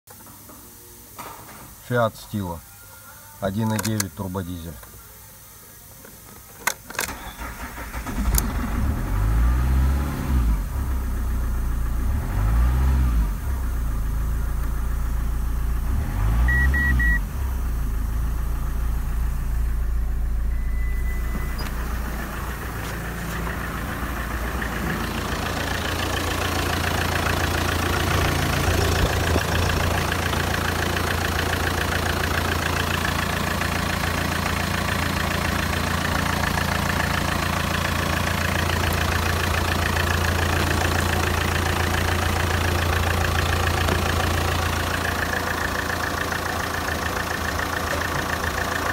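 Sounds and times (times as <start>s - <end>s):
diesel engine idling: 7.1s - 48.9s
diesel engine starting and revving: 7.1s - 48.9s.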